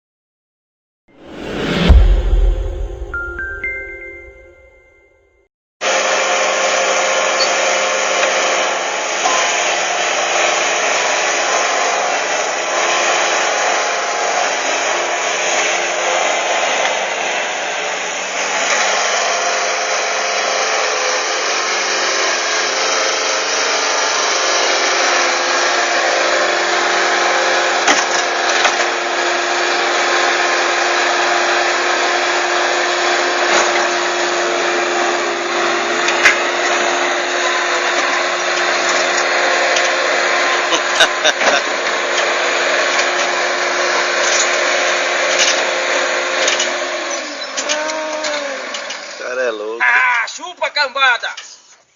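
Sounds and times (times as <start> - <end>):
machine grinding and whirring: 6.4 - 49.3.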